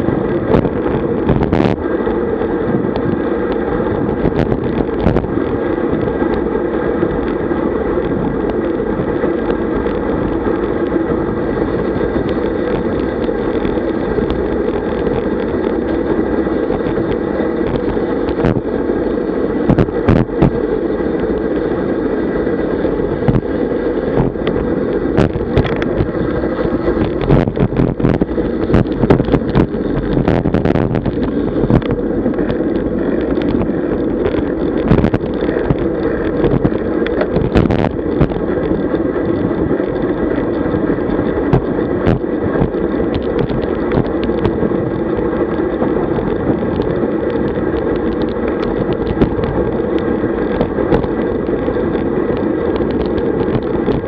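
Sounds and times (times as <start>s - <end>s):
bicycle tyres on asphalt: 0.0s - 54.0s
wind rushing over microphone: 0.0s - 54.0s.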